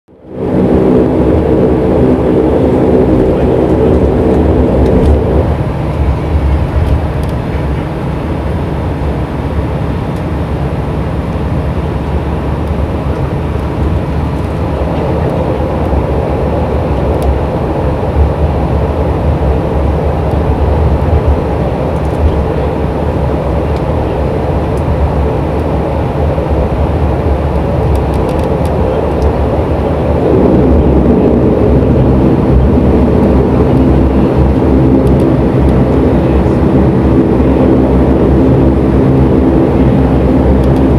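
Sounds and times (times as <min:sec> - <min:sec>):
buzzing propeller tone: 0:00.1 - 0:40.9
turboprop engine drone: 0:00.1 - 0:40.9.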